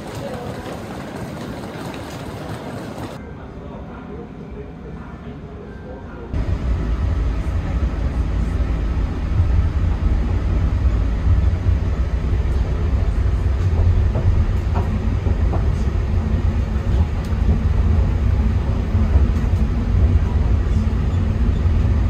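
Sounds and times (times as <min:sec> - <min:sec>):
train low rumble: 0:00.0 - 0:03.2, 0:06.3 - 0:22.0.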